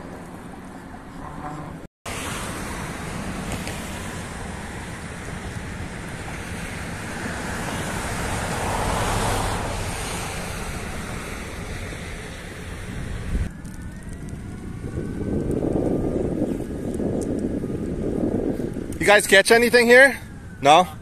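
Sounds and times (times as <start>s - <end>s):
wind rushing over microphone: 2.1s - 20.9s.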